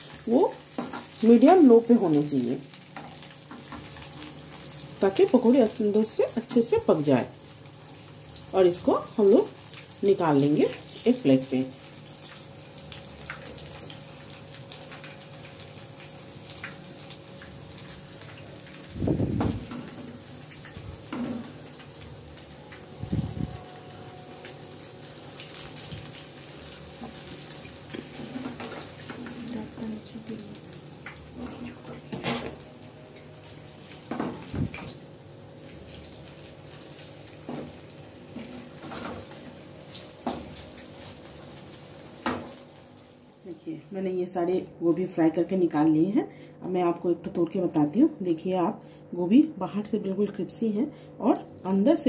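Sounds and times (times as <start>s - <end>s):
food deep-frying in oil: 0.0s - 43.5s.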